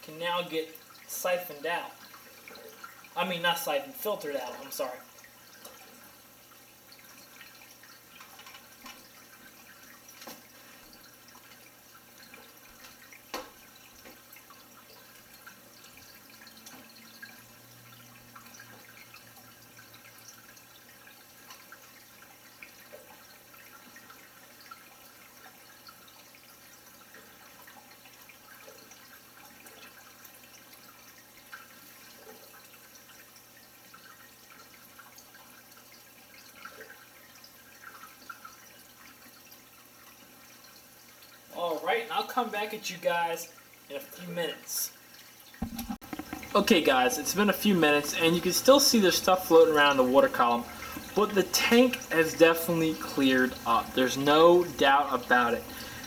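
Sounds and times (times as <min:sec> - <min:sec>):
small drips and clicks: 0:00.0 - 0:56.0
water trickling and bubbling: 0:00.0 - 0:56.0.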